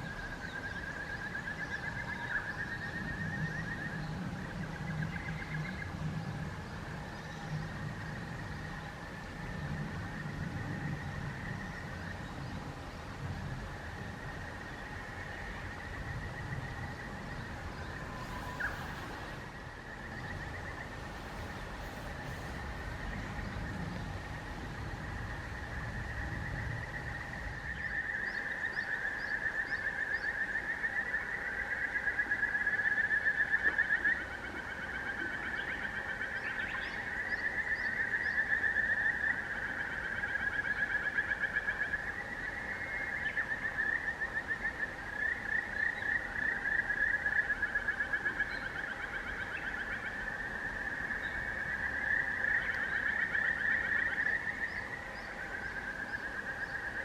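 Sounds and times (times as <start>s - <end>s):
frogs trilling: 0.0s - 57.0s.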